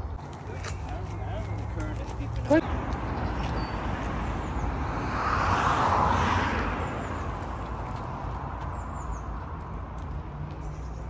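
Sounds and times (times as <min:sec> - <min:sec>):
car passing: 0:00.8 - 0:11.0.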